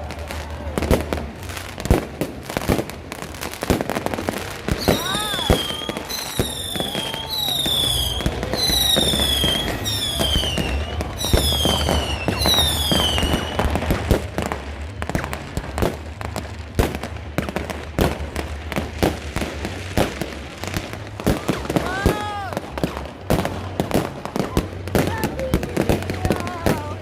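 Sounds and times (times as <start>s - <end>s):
firework bangs and cracks: 0.0s - 27.0s
whistling fireworks: 0.0s - 27.0s.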